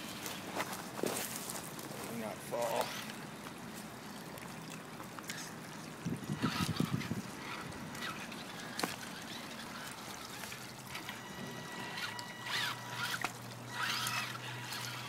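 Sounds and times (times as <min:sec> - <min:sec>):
creek water trickling over rocks: 0:00.0 - 0:15.0.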